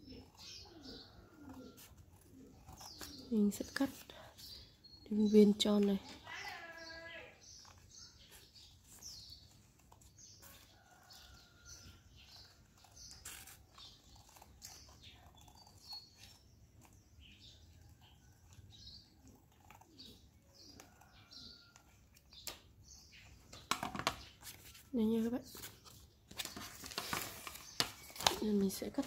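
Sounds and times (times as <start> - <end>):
scissors snipping paper: 0.0 - 23.6
small birds chirping: 0.0 - 29.0.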